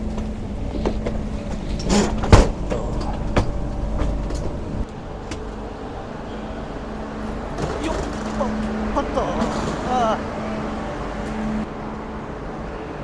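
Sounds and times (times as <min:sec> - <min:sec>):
train carriage hum: 0:00.0 - 0:13.0.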